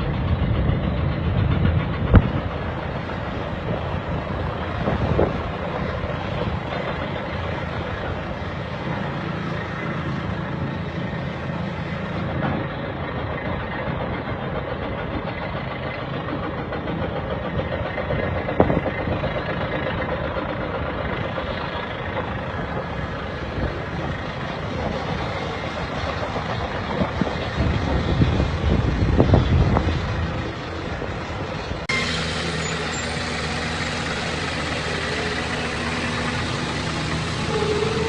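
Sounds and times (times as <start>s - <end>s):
heavy machinery engine running: 0.0s - 38.0s.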